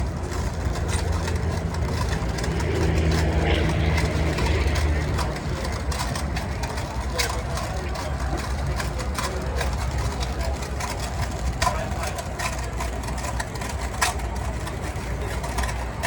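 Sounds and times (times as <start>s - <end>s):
machinery low rumble: 0.0s - 16.0s.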